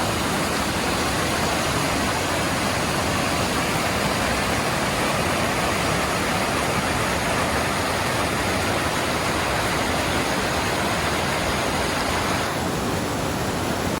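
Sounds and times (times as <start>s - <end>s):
mountain stream rapids rushing: 0.0s - 14.0s.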